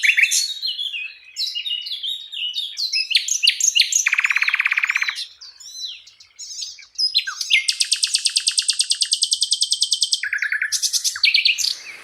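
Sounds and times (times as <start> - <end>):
flycatcher singing: 0.0 - 12.0.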